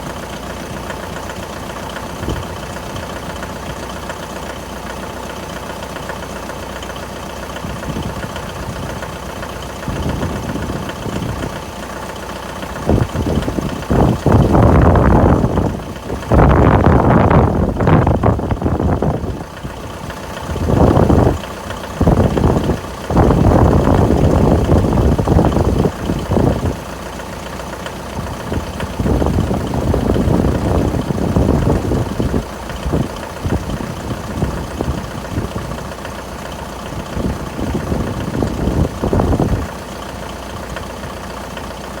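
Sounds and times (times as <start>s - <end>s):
diesel engine knocking: 0.0s - 42.0s.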